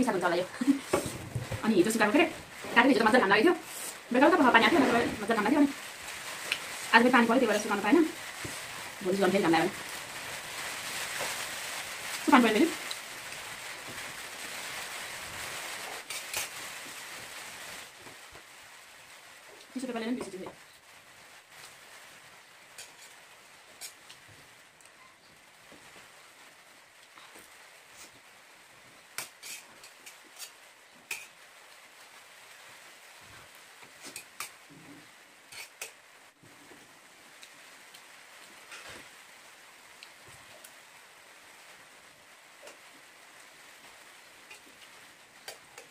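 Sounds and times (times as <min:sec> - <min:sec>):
faint background hiss: 0:00.0 - 0:45.9
rain falling: 0:00.0 - 0:45.9.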